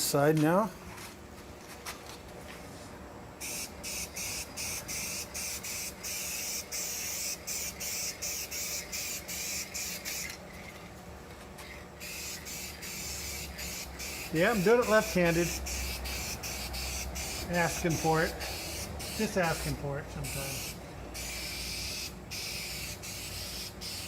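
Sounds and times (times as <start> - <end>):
spray paint can hissing: 3.4 - 10.9, 11.6 - 24.0.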